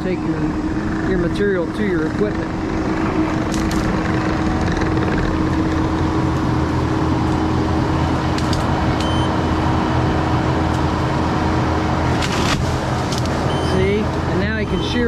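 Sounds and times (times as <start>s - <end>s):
constant hum: 0.0s - 15.0s
skid steer engine drone: 0.0s - 15.0s.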